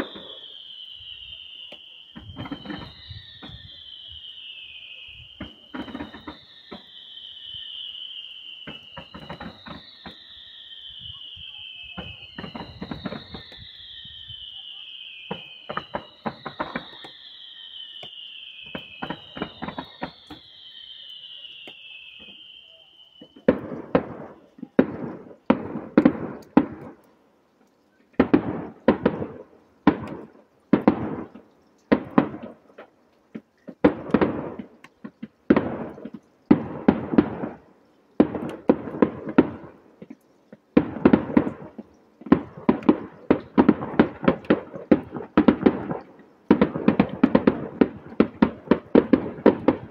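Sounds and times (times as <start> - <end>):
firework bangs: 0.0 - 4.7, 5.3 - 27.0, 28.1 - 32.9, 33.6 - 49.9
firework whistles falling: 0.0 - 27.1, 27.7 - 49.9
firework crackles: 0.0 - 49.9.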